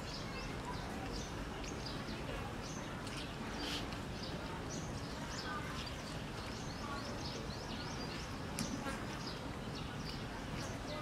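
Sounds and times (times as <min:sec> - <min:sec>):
birds chirping: 0:00.0 - 0:11.0
low outdoor background noise: 0:00.0 - 0:11.0.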